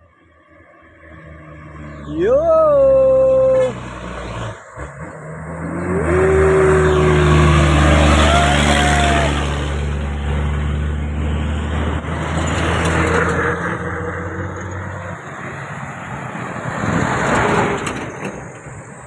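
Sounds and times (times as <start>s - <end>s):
truck driving past: 0.1s - 19.0s.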